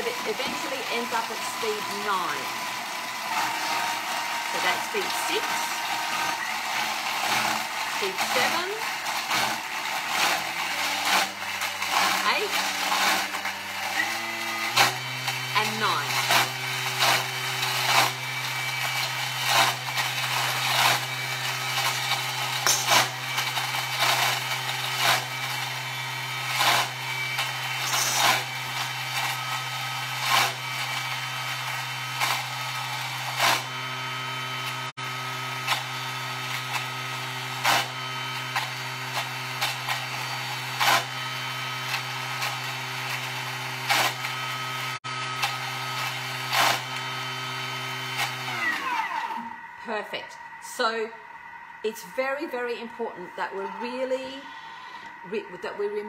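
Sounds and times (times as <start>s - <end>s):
blender motor humming: 0.0s - 56.0s.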